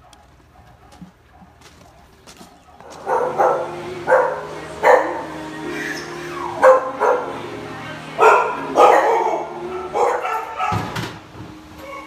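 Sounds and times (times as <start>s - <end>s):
dogs barking: 0.0s - 11.1s.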